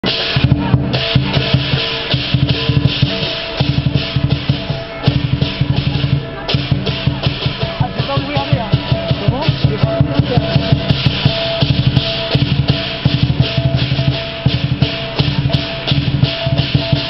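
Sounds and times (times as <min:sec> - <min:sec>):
music with fast heavy drumming: 0:00.0 - 0:17.0.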